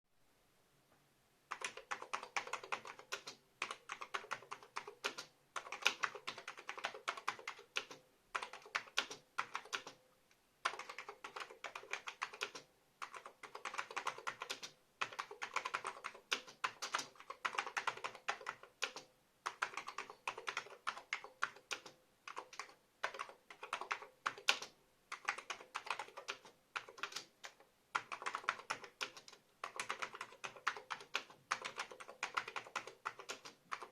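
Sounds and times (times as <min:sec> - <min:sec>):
keyboard typing clicks: 0:01.5 - 0:10.0, 0:10.6 - 0:33.9.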